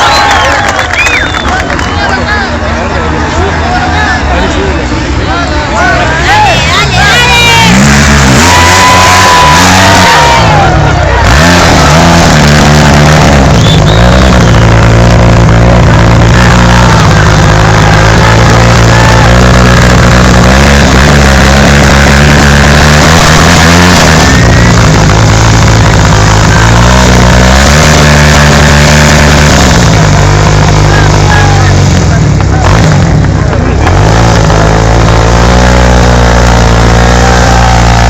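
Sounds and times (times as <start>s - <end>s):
motorcycle and quad engines revving: 0.0s - 38.0s.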